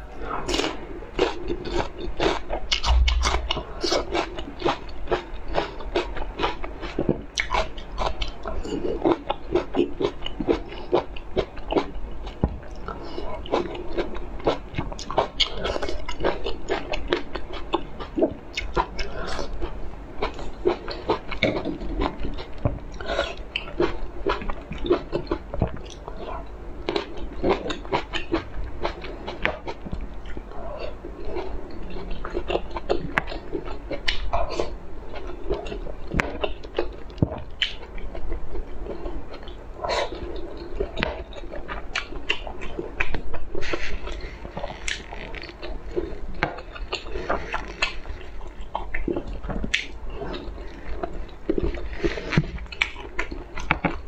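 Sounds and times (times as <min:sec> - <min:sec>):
person chewing food: 0:00.2 - 0:54.0.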